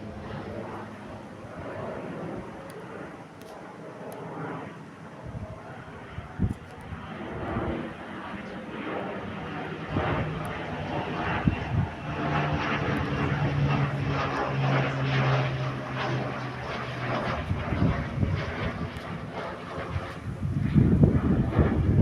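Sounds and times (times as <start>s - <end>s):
propeller aircraft flying over: 0.0s - 22.0s.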